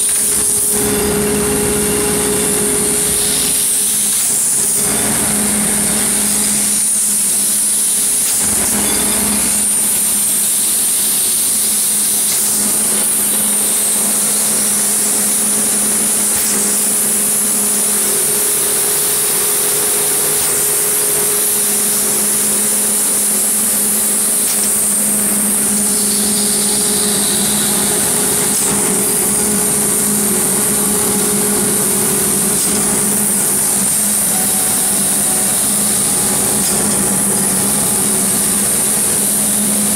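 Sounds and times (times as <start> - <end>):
machine humming: 0.0 - 39.9
high-pitched hiss: 2.8 - 39.9.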